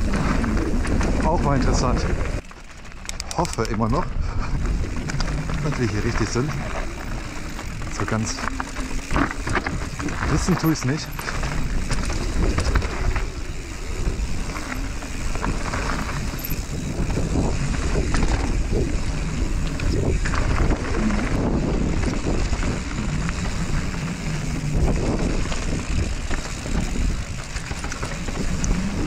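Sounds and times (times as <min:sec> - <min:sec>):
bike tyres rolling on gravel: 0:00.0 - 0:29.0
stones and bike rattling: 0:00.0 - 0:29.0
wind buffeting microphone: 0:03.4 - 0:29.0.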